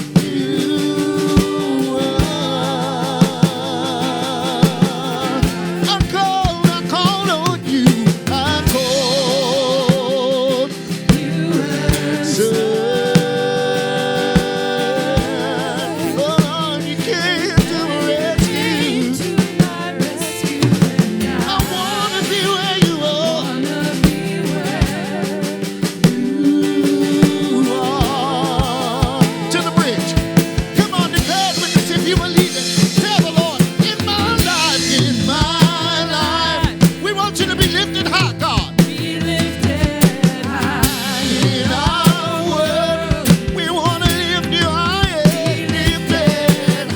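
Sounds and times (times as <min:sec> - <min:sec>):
drum kit beat: 0:00.0 - 0:46.9
people singing: 0:00.0 - 0:46.9
worship band playing: 0:00.0 - 0:46.9.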